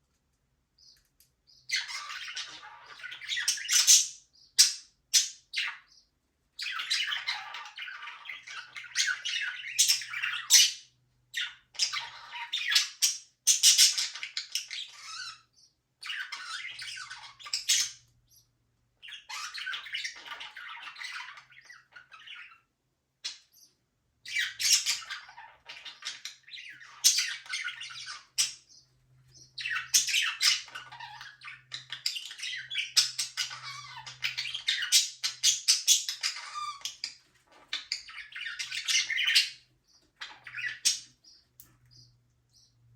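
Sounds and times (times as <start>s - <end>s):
budgerigars chirping: 0.8s - 42.9s.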